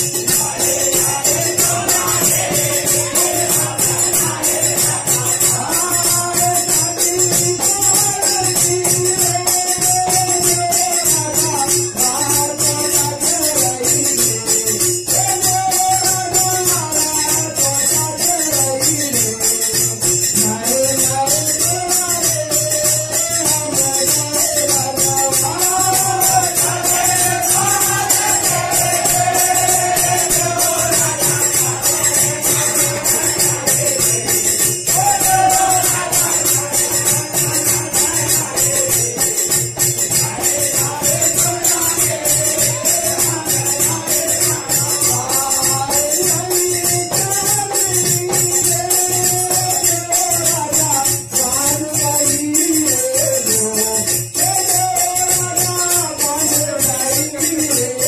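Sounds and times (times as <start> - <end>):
jingling hand percussion: 0.0 - 58.0
man singing slow melody: 4.3 - 28.0, 28.6 - 58.0.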